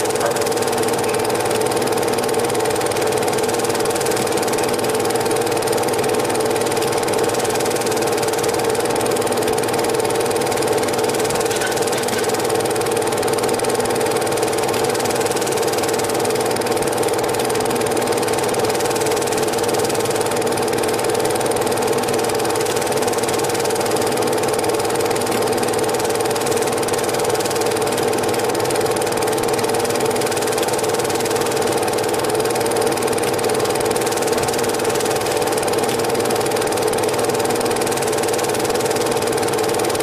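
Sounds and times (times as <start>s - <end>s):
film projector whirring clatter: 0.0s - 40.0s.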